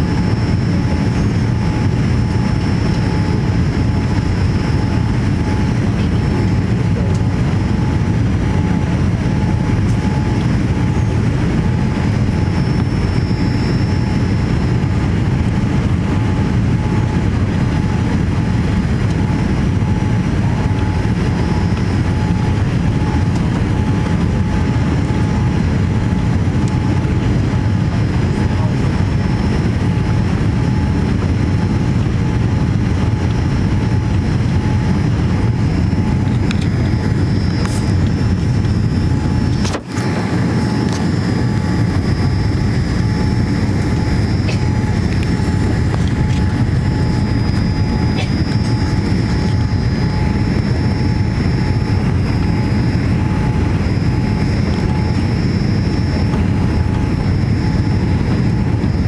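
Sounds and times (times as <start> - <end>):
airliner cabin engine rush: 0.0 - 59.0
thin steady whine: 0.0 - 59.0.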